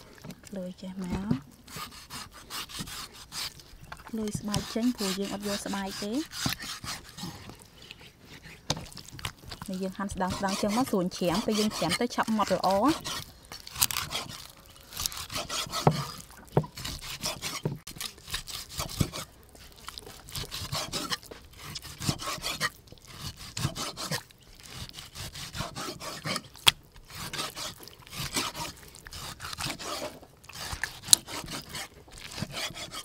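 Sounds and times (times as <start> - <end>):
cleaver sawing through meat: 1.0 - 33.0.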